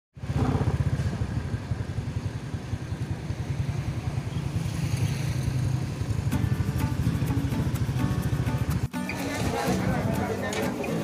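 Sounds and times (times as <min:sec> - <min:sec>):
road vehicle engines rumbling: 0:00.2 - 0:11.0.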